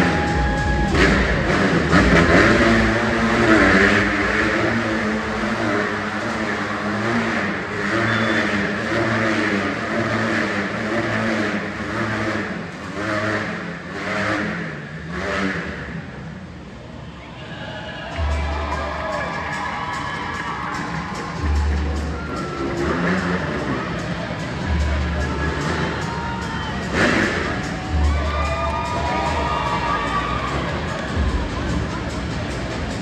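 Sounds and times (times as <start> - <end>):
motorcycle engines revving: 0.0 - 17.1, 18.1 - 33.0.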